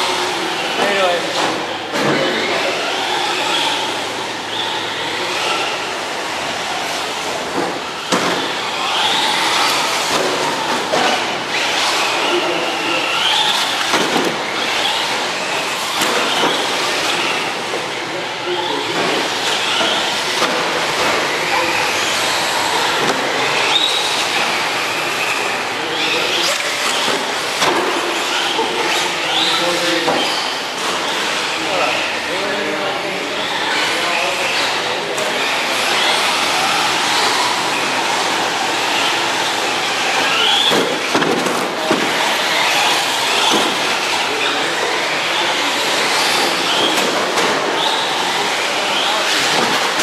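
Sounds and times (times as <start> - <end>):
toy car electric motors whining: 1.7 - 41.1, 41.7 - 50.0.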